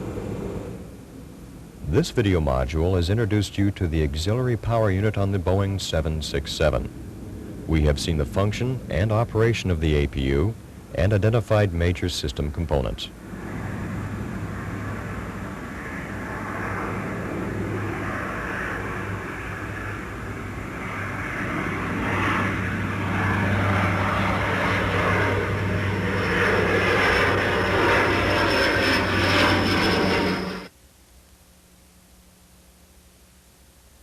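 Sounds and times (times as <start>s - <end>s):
aircraft turbine engine humming: 0.0s - 30.7s.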